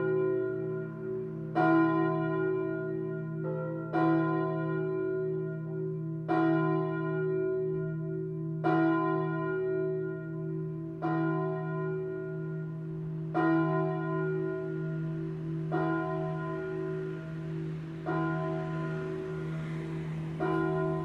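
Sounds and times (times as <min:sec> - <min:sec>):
church bells pealing: 0:00.0 - 0:21.0.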